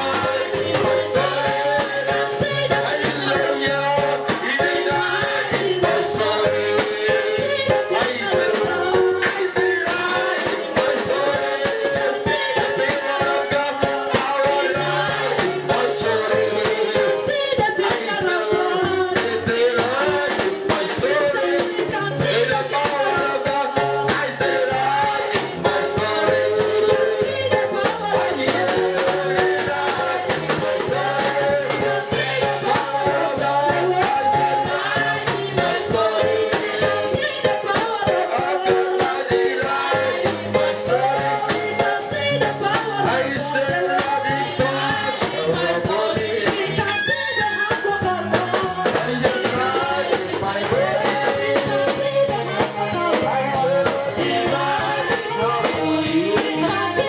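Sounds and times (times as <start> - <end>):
drums: 0.0 - 57.0
gospel singing: 0.0 - 57.0
shaken percussion: 0.0 - 57.0.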